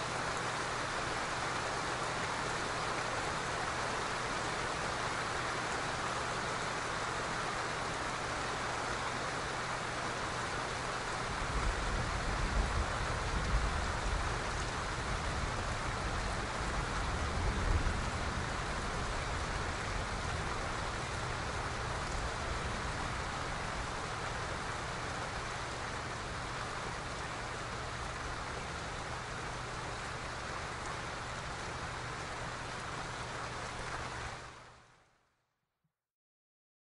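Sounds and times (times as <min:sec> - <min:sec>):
steady rain falling: 0:00.0 - 0:35.3.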